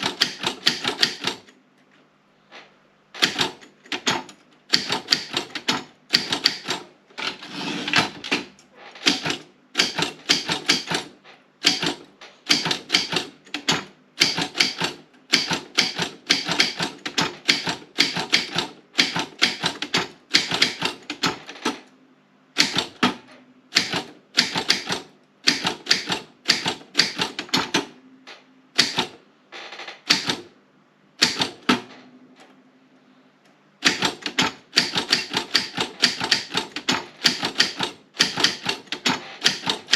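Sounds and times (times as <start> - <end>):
typewriter key strikes: 0.0 - 1.5, 3.2 - 21.8, 22.6 - 27.9, 28.8 - 29.2, 30.0 - 30.4, 31.2 - 31.9, 33.8 - 39.9.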